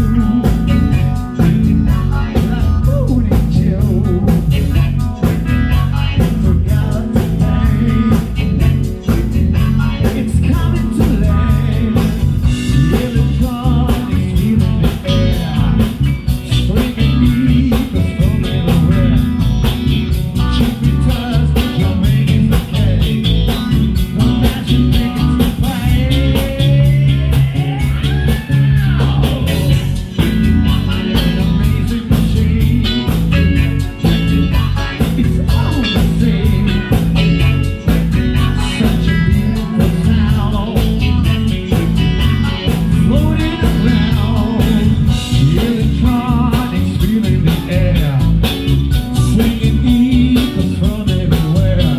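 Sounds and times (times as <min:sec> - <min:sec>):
live rock band: 0:00.0 - 0:51.9.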